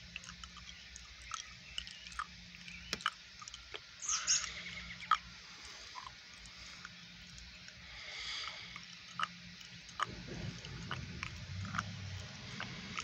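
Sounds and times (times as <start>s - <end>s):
low steady hum: 0.0s - 13.0s
chirping: 0.3s - 13.0s.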